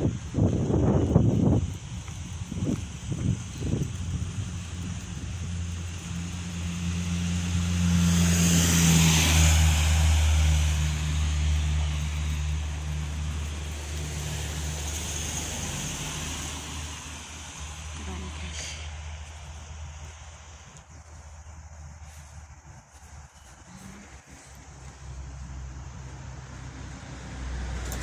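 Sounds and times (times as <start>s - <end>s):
van driving past: 0.0s - 28.0s.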